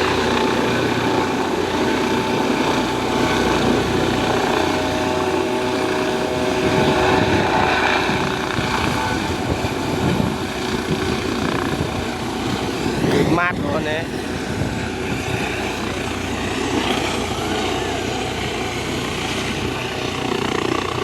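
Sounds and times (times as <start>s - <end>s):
helicopter rotor and engine: 0.0s - 21.0s
steady whining tones: 0.0s - 21.0s.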